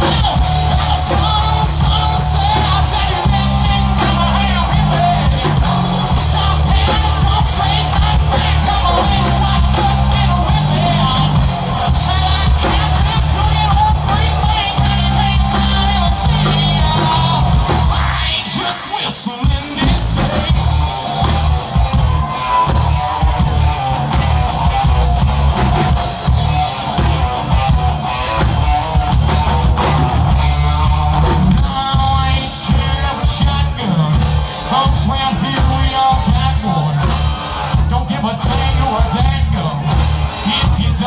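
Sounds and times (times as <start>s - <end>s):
man singing: 0.0s - 24.1s, 26.9s - 41.0s
country-rock band playing: 0.0s - 41.0s.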